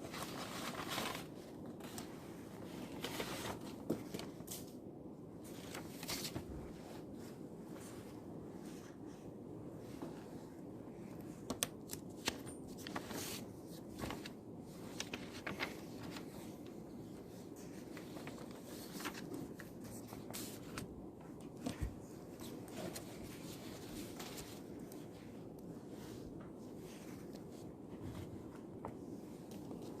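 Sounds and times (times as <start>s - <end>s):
paper rustling: 0.0s - 4.8s, 5.4s - 9.2s, 11.0s - 30.0s
low room hum: 0.0s - 30.0s.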